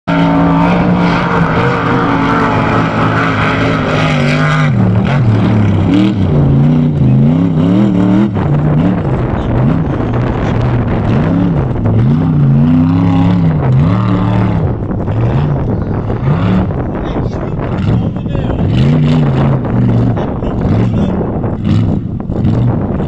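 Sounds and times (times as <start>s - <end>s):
buggy engine revving: 0.1s - 23.0s.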